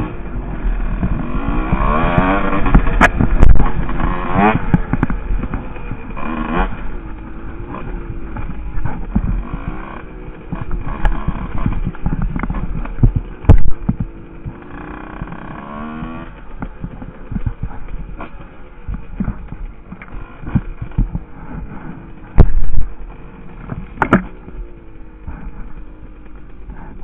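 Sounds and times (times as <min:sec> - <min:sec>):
dirt bike engine revving: 0:00.0 - 0:27.0
knocks and rattles over bumps: 0:00.0 - 0:27.0.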